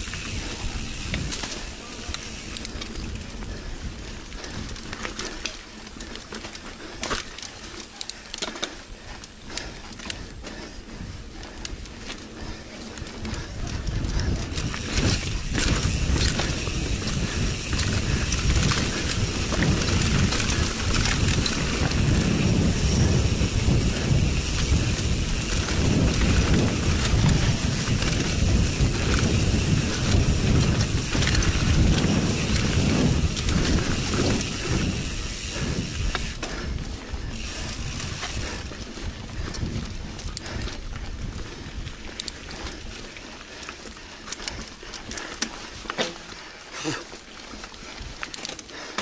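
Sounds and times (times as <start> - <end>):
bike rattling and clicking: 0.0 - 49.0
bike tyres rolling over dirt: 0.0 - 49.0.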